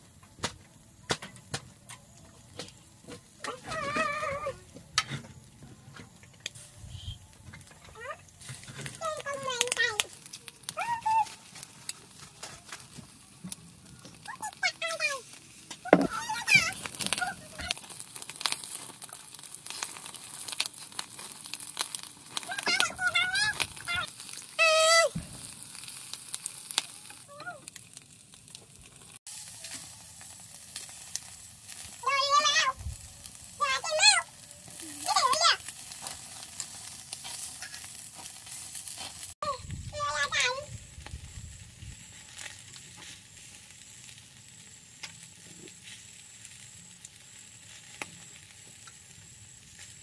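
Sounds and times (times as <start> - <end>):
meat sizzling on a charcoal grill: 0.0 - 50.0.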